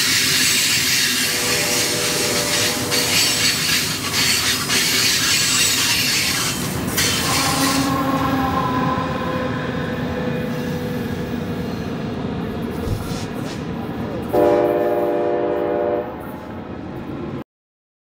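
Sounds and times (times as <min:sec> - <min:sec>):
train wheels rushing on rail: 0:00.0 - 0:17.4.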